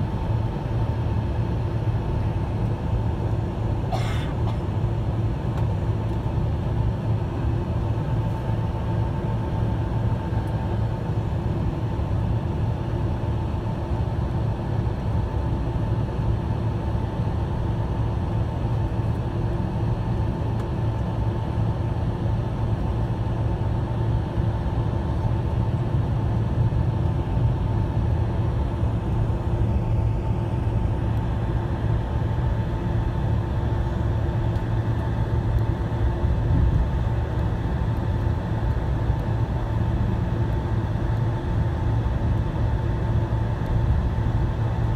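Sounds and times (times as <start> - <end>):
constant cabin hum: 0.0 - 44.9
jet engines rumbling at taxi: 0.0 - 44.9.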